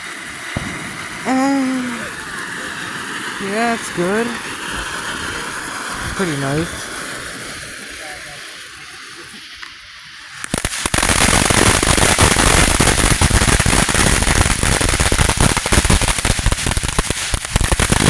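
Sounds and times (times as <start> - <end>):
fireworks cracking and popping: 0.0 - 18.0.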